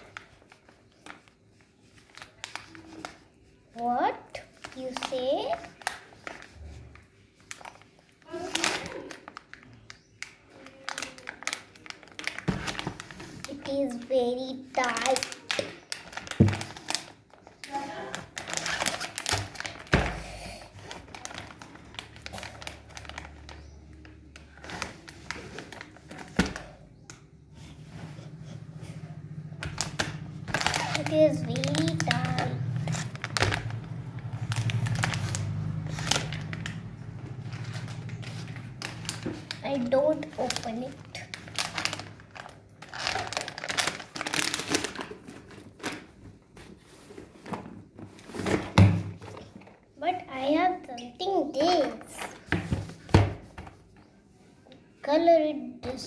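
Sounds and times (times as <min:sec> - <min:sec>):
plastic packaging crinkling: 0:00.0 - 0:20.2, 0:20.8 - 0:27.1, 0:29.5 - 0:49.8.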